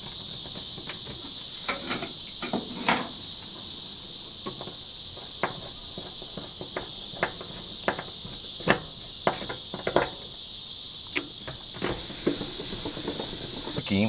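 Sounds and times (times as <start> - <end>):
high insect buzz: 0.0 - 14.0.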